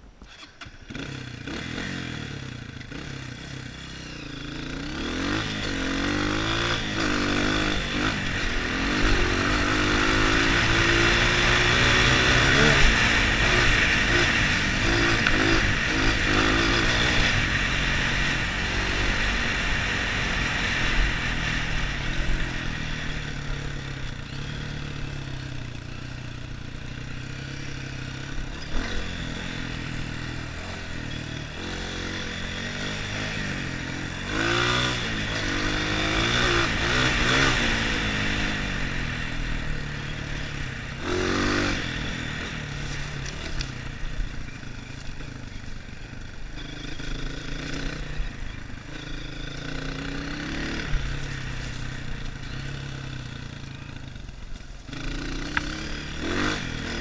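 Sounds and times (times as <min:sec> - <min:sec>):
dirt bike engine revving: 0:00.3 - 0:57.0.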